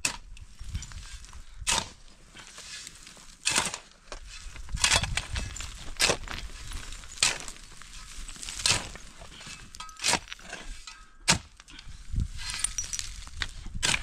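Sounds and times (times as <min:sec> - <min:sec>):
shovel crunching into stony soil: 0:00.0 - 0:14.0.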